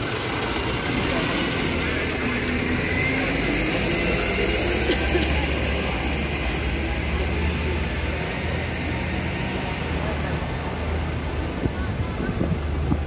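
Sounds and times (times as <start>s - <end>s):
city street noise: 0.0s - 13.0s
vehicle engine rumbling: 0.0s - 13.0s.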